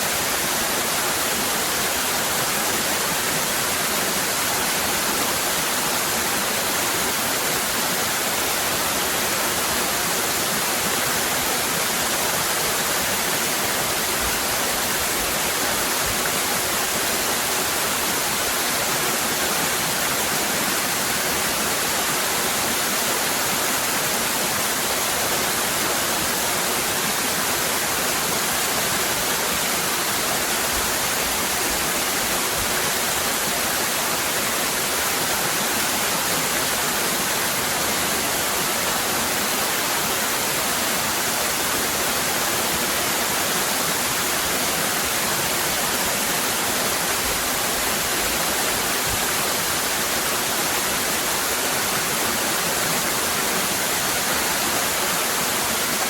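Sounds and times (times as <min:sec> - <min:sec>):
waterfall cascading: 0:00.0 - 0:56.0.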